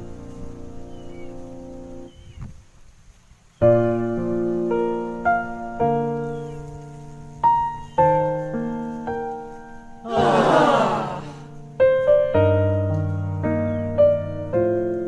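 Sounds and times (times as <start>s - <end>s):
piano music: 0.0s - 2.2s, 3.6s - 15.0s.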